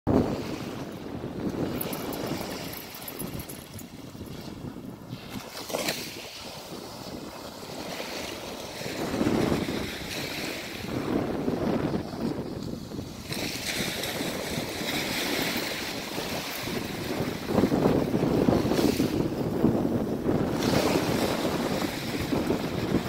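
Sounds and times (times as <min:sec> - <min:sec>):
small waves washing up beach: 0:00.1 - 0:23.0
wind gusts on microphone: 0:00.1 - 0:23.0.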